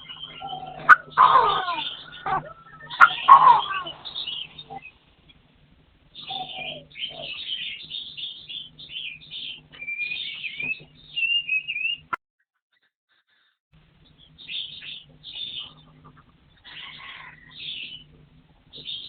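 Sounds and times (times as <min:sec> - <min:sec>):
partridge calls: 0:00.0 - 0:05.4, 0:06.2 - 0:12.2, 0:14.2 - 0:18.1.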